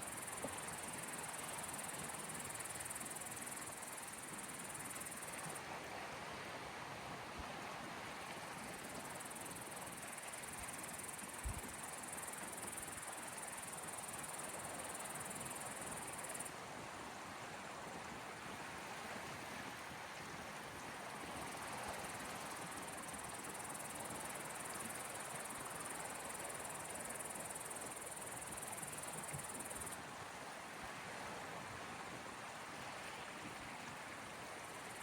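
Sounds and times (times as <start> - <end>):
gentle sea waves washing ashore: 0.0 - 35.0.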